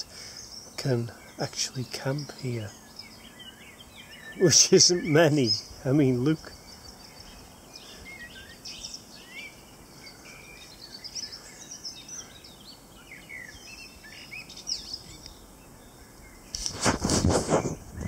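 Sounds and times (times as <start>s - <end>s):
songbirds chirping and singing: 0.0s - 16.8s
faint background hiss: 0.0s - 18.0s.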